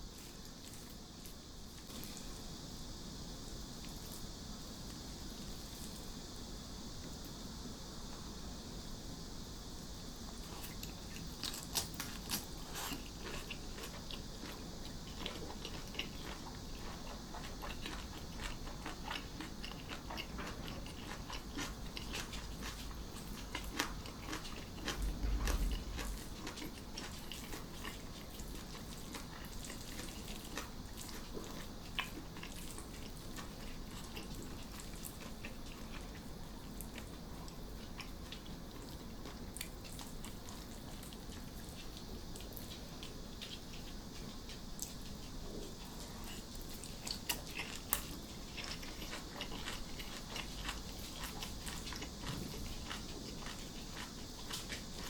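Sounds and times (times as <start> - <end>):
crunching and chewing crisp food: 0.0 - 7.4, 10.1 - 55.0
cicadas droning: 0.0 - 55.0.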